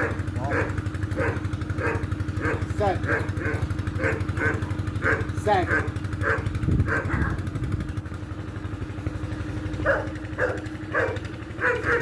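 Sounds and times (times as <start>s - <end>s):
dog barking: 0.0s - 7.5s, 9.8s - 12.0s
engine rumbling: 0.0s - 12.0s.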